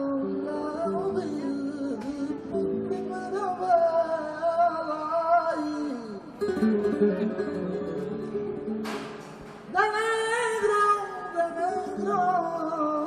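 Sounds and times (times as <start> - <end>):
man singing flamenco: 0.0 - 8.6, 9.7 - 13.0
acoustic flamenco guitar: 0.0 - 13.0.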